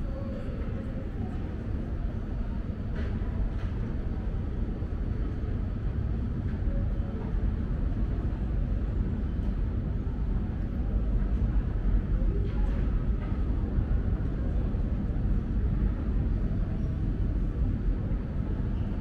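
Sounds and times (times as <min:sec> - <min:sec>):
subway station rumble: 0:00.0 - 0:19.0.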